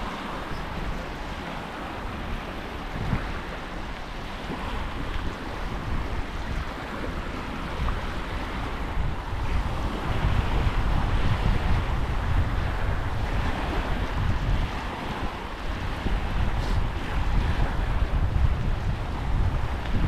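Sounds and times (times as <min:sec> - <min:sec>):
waves lapping on sand: 0:00.0 - 0:20.0
wind on microphone: 0:00.0 - 0:20.0.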